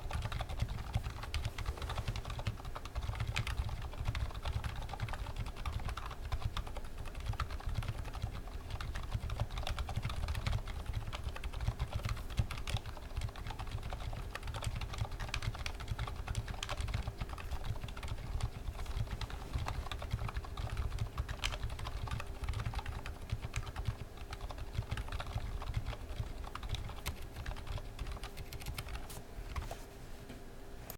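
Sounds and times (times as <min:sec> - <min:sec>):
fast typing on mechanical keyboard: 0:00.0 - 0:29.7.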